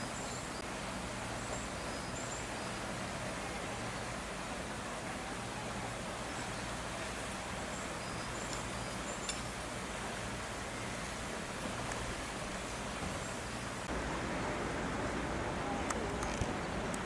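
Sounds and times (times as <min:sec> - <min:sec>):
wind with rustling: 0:00.0 - 0:17.0.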